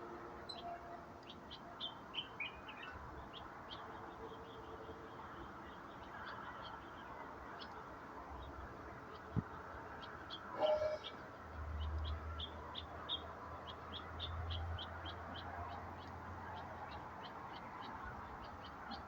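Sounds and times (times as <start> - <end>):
small birds chirping: 0.5 - 19.0.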